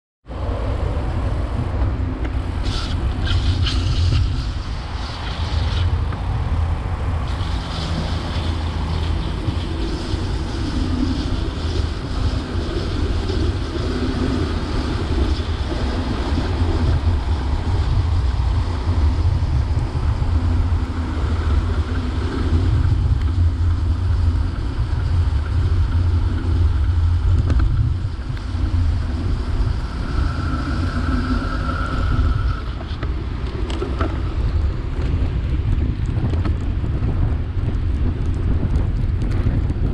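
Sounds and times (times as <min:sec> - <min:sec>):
road noise: 0:00.2 - 0:39.9
wind buffeting microphone: 0:00.2 - 0:39.9.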